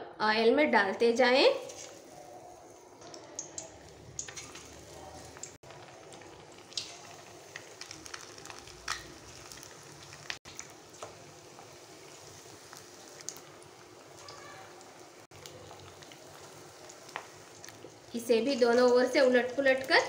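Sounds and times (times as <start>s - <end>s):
fritters deep-frying in oil: 1.1s - 20.0s
oil popping and crackling: 1.6s - 20.0s.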